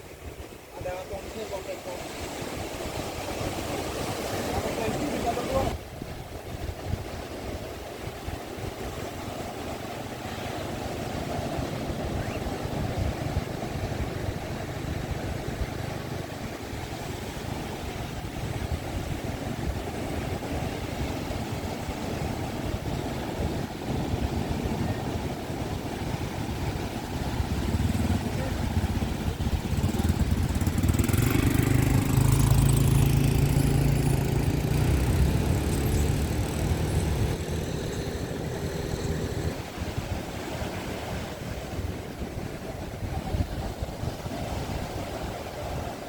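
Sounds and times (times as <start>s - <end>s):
motorboat engine passing: 0.0s - 46.0s
surf washing on shore: 0.0s - 46.0s.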